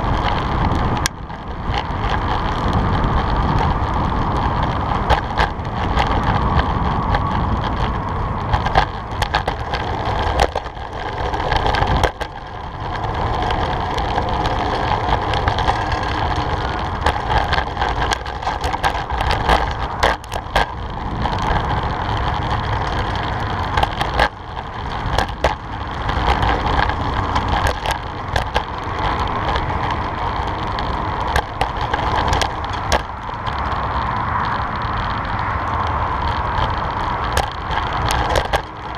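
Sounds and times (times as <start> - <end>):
bicycle tyre rumble: 0.0 - 38.9
bike knocking and rattling: 0.0 - 38.9
wind rush on microphone: 0.0 - 38.9.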